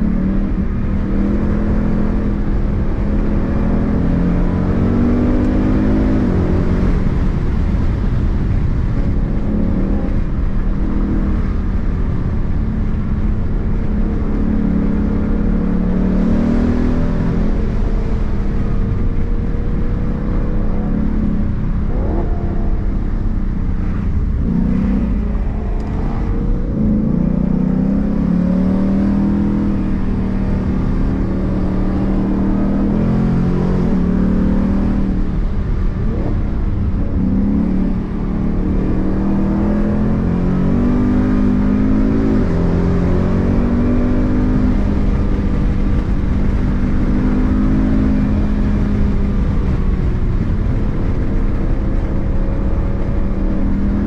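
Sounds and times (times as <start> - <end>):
car engine accelerating: 0.0 - 54.0
road rumble: 0.0 - 54.0.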